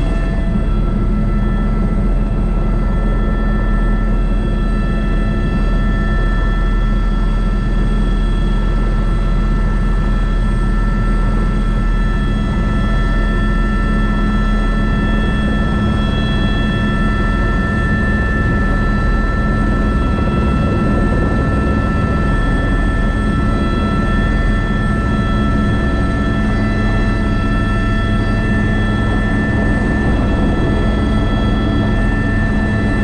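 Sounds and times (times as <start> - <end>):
helicopter running: 0.0 - 33.0
high turbine whine: 0.0 - 33.0.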